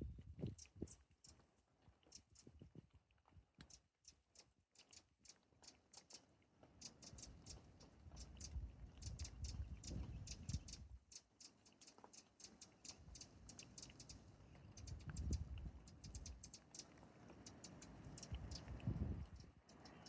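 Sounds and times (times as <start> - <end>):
small birds chirping: 0.1 - 2.8, 3.5 - 20.0.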